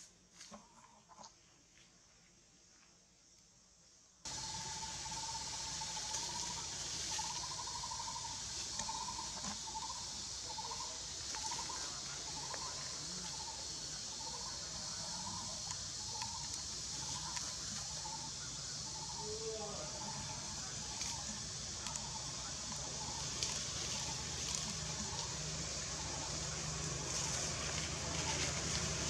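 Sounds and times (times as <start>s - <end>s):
high-pitched hiss: 2.5s - 29.0s.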